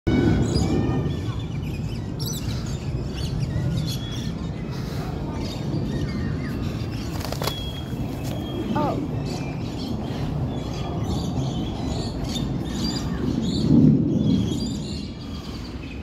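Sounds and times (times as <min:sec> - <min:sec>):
small birds chirping: 0:00.5 - 0:16.0.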